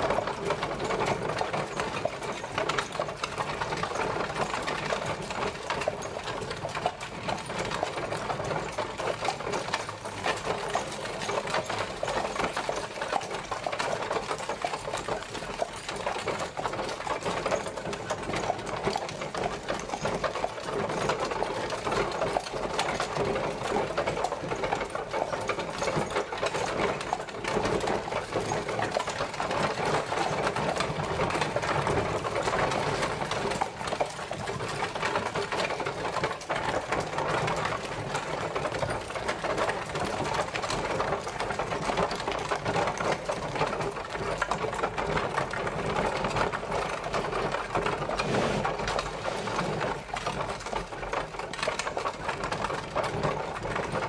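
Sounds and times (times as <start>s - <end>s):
horse-drawn carriage rattling: 0.0s - 54.0s.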